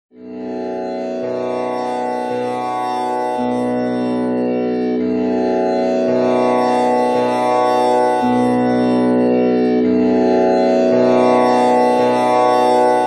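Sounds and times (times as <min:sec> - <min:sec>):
tanpura drone: 0:00.2 - 0:13.0.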